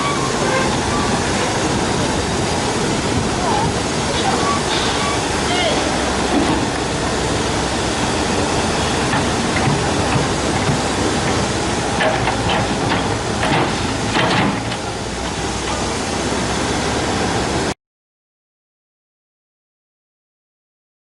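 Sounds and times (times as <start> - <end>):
excavator engine: 0.0 - 17.8.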